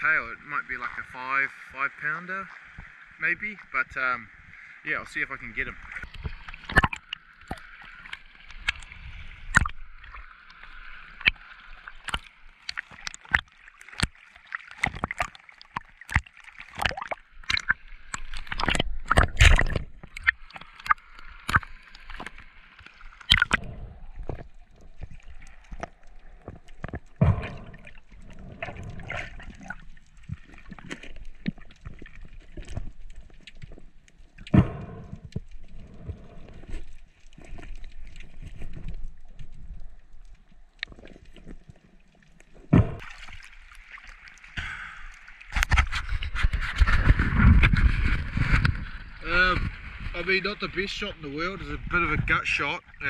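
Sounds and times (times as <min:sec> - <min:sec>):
water gurgling underwater: 0:05.5 - 0:50.2.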